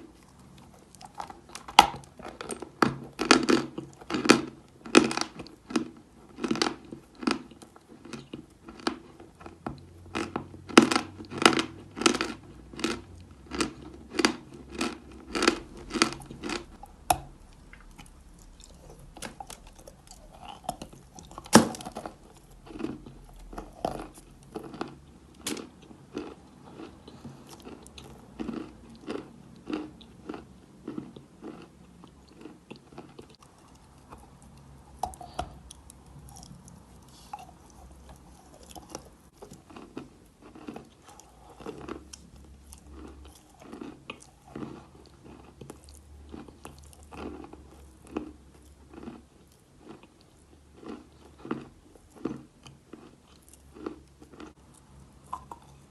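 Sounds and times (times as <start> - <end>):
chalk crunching and chewing: 0.0 - 55.9.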